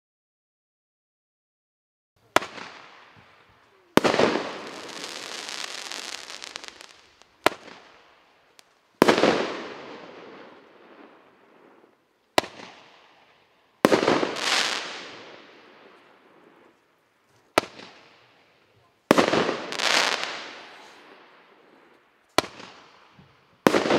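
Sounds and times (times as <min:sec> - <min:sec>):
dense firework crackling: 0:02.2 - 0:23.9
roman candle shots: 0:02.2 - 0:23.9.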